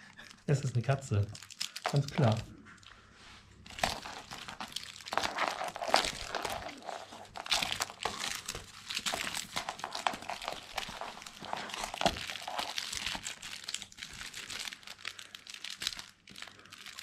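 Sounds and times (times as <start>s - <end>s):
plush dog toy crinkling: 0.0s - 3.0s, 3.6s - 17.0s.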